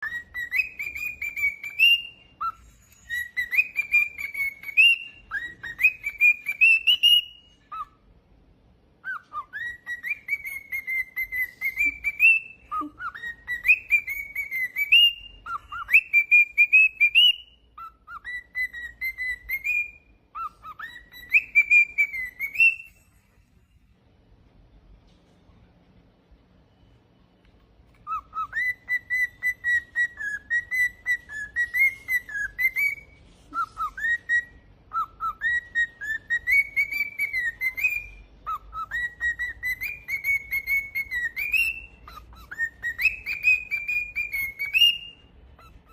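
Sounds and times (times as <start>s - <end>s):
cockatiel whistling song: 0.0s - 23.8s, 26.6s - 45.9s.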